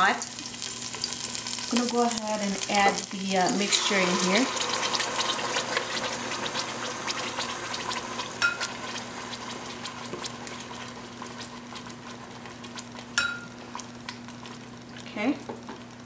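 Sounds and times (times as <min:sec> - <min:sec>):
puree sizzling in hot oil: 0:00.0 - 0:16.0.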